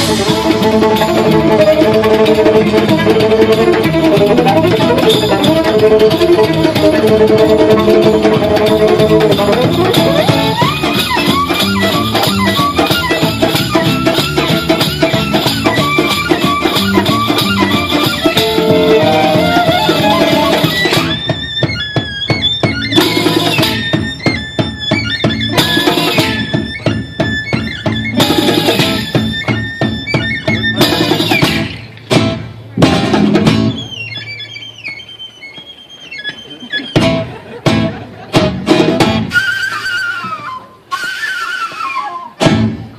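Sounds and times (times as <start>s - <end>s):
live band instrumental music: 0.0s - 42.9s.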